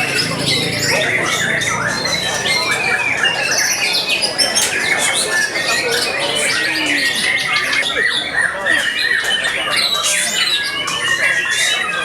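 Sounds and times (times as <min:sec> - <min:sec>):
songbirds singing in chorus: 0:00.0 - 0:12.0.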